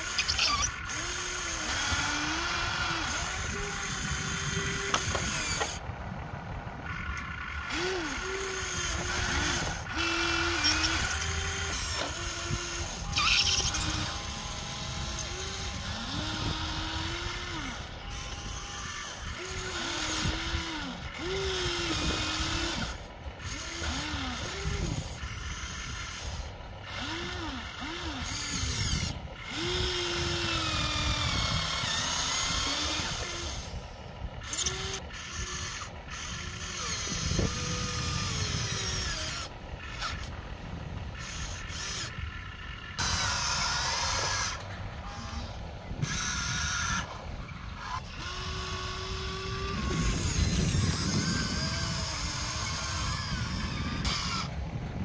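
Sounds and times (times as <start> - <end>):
toy electric motors whining: 0.0 - 55.0.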